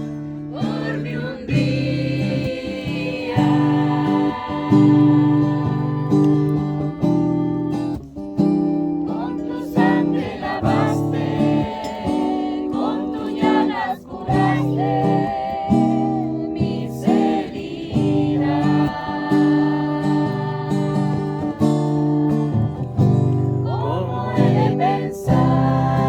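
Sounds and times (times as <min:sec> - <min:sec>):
voices singing along: 0:00.0 - 0:07.9, 0:09.1 - 0:26.0
acoustic guitar strumming chords: 0:00.0 - 0:26.0.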